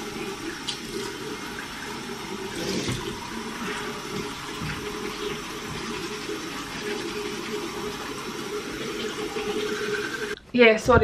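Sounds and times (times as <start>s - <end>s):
water running from sink tap: 0.0s - 10.4s.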